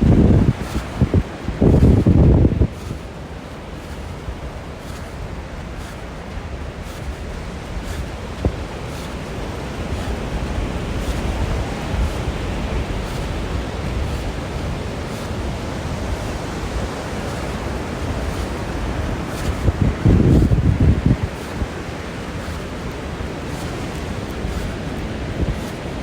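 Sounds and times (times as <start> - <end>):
ocean surf rushing: 0.0 - 26.0
wind buffeting microphone: 0.0 - 26.0.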